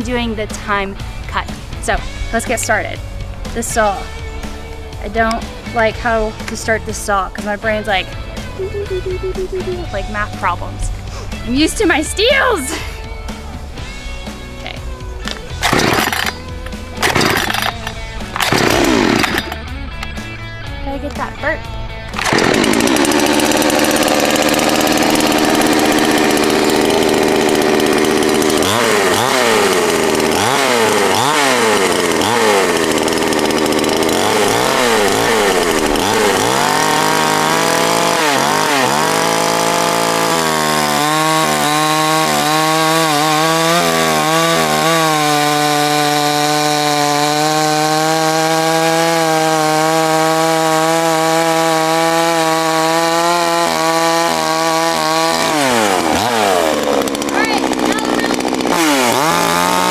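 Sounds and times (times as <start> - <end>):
chainsaw cutting log: 1.4 - 20.2, 22.0 - 59.9.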